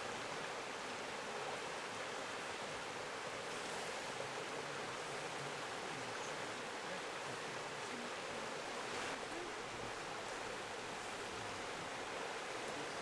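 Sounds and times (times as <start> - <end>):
river water rushing over logs: 0.0 - 13.0.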